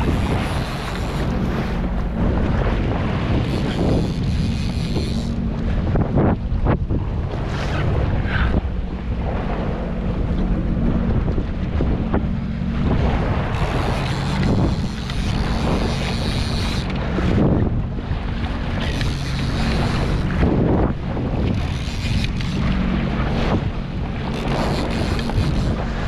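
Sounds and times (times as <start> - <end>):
jet ski engine running: 0.0 - 26.0
water rushing along hull: 0.0 - 26.0
wind buffeting microphone: 0.0 - 26.0.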